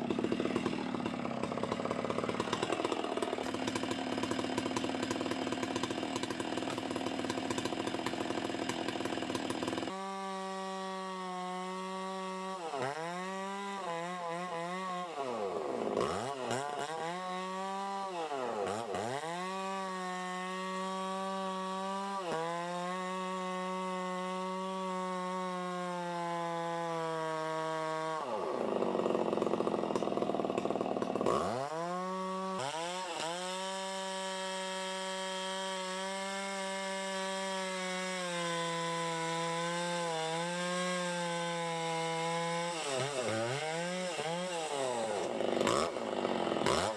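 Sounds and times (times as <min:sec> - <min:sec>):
chainsaw engine revving: 0:00.0 - 0:46.9.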